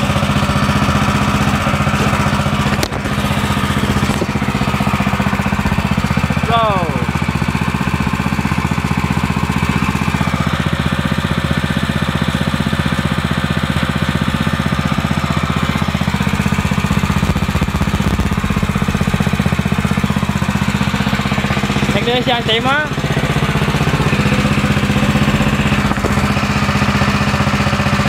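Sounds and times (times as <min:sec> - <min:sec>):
water pump engine running: 0:00.0 - 0:28.0.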